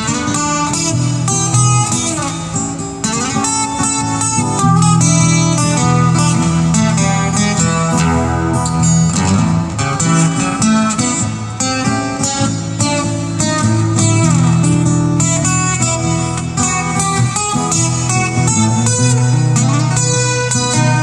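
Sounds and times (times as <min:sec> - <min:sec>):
acoustic guitars strumming: 0:00.0 - 0:21.0
bending lead guitar line: 0:00.0 - 0:21.0.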